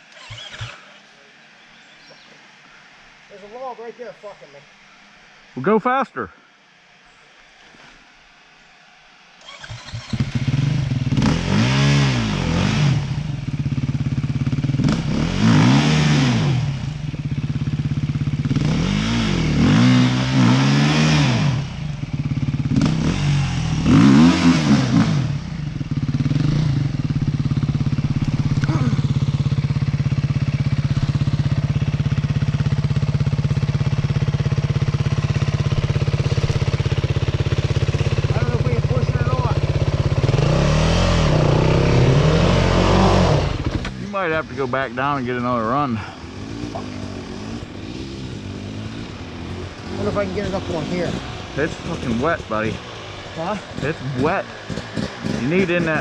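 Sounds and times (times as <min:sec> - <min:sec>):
dirt bike engine revving: 0:00.0 - 0:04.0, 0:09.4 - 0:56.0.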